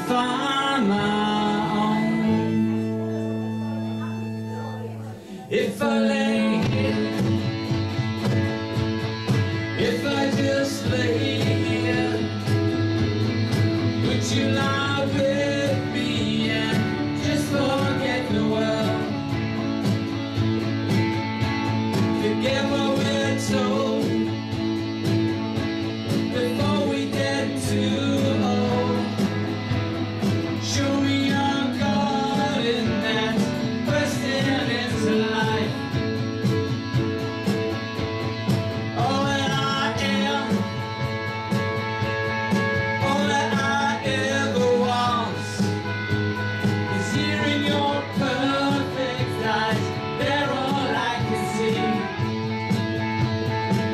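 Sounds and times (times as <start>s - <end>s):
electric guitar: 0.0s - 53.9s
live band playing: 0.0s - 53.9s.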